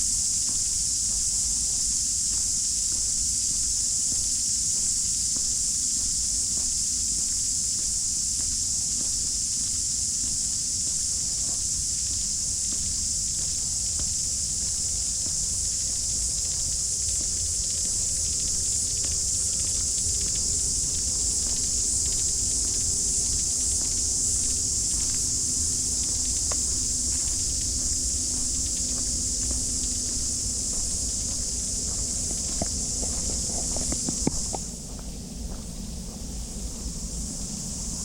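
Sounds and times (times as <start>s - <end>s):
faint footsteps on path: 0.0s - 37.1s
cicadas chorus: 0.0s - 38.0s.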